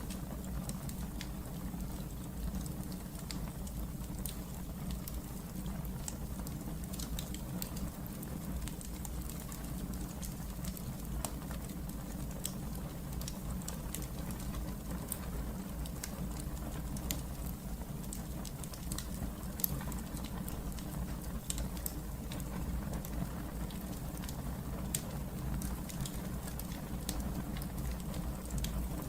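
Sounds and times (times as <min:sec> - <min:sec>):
burning logs popping and snapping: 0:00.0 - 0:29.0
low rumble of flames: 0:00.0 - 0:29.0.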